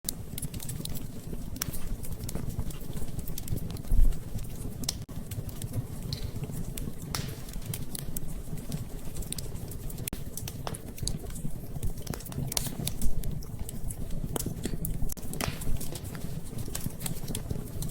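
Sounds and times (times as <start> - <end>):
wood fire crackling: 0.1 - 17.9.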